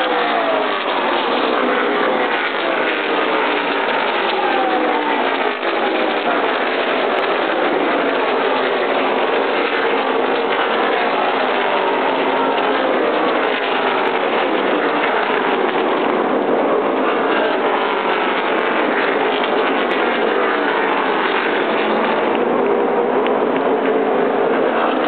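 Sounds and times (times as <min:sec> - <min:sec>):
race car engines roaring past: 0:00.0 - 0:25.0.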